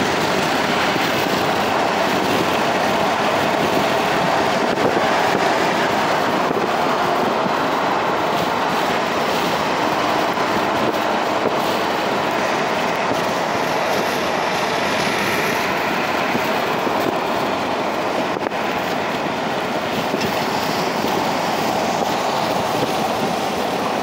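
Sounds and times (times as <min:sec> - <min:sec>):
air rushing past car windows: 0:00.0 - 0:24.0
tyres on pavement: 0:00.0 - 0:24.0.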